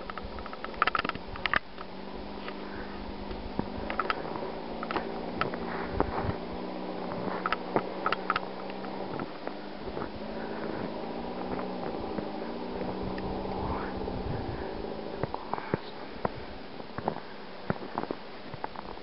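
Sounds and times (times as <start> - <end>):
steady low hum: 0.0 - 19.0
footsteps crunching in snow: 1.8 - 19.0.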